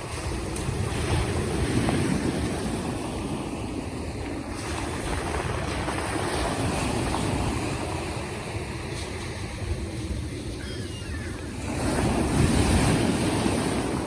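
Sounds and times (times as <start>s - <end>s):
waves washing: 0.0s - 14.0s
wind rumbling on microphone: 0.0s - 14.0s.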